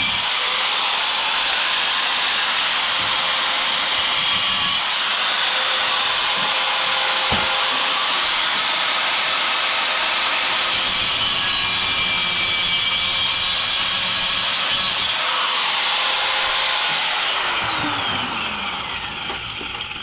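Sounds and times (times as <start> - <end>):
angle grinder cutting steel: 0.0 - 20.0.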